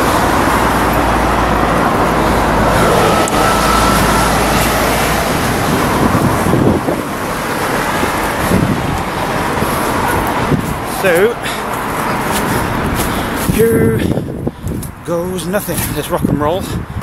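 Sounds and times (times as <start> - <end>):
heavy road traffic: 0.0 - 17.0
wind on microphone: 0.0 - 17.0.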